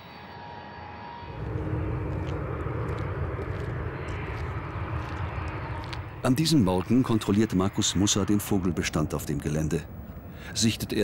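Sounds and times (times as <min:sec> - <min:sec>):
jet engines rumbling with whine: 0:00.0 - 0:11.0.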